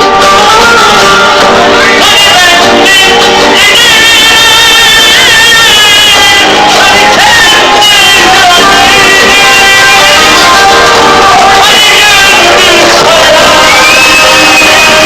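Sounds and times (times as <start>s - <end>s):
instrumental backing: 0.0s - 15.0s
person singing ornamented lines: 0.0s - 15.0s.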